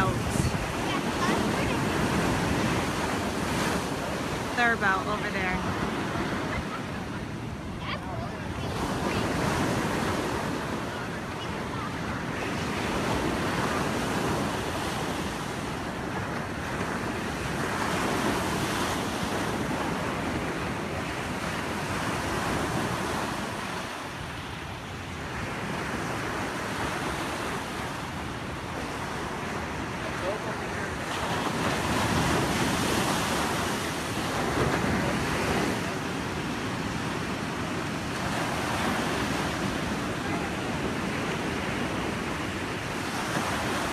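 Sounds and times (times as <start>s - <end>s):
ocean surf breaking: 0.0s - 43.9s
wind buffeting microphone: 0.0s - 43.9s.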